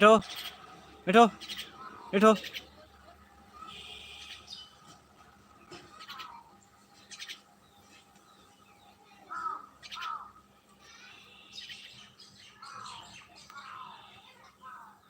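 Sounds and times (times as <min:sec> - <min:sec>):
myna calling: 0:00.0 - 0:04.8, 0:05.8 - 0:07.5, 0:09.1 - 0:15.0.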